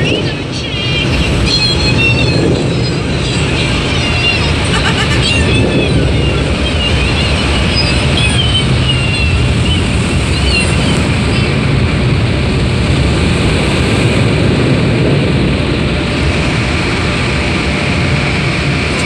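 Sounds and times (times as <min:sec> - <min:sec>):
car wash dryer blowers roaring: 0:00.0 - 0:19.0.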